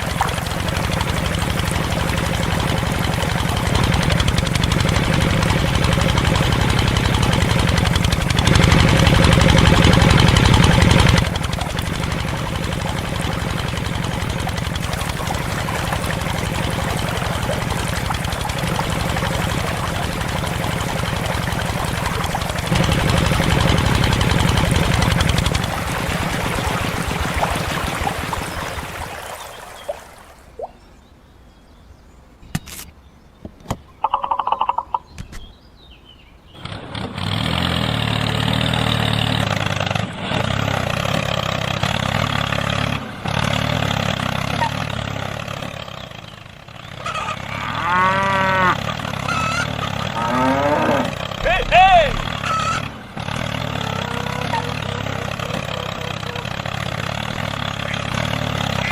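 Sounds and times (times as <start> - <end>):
small engine knocking: 0.0 - 29.9, 36.6 - 47.6, 48.2 - 58.9.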